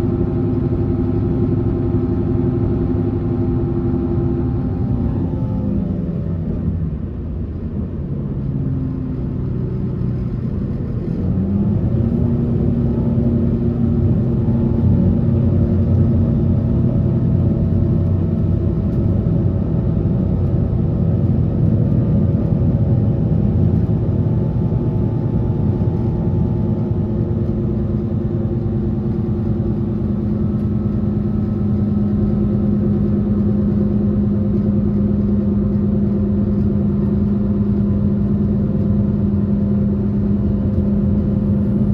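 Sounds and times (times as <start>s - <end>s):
steady train hum: 0.0s - 41.9s.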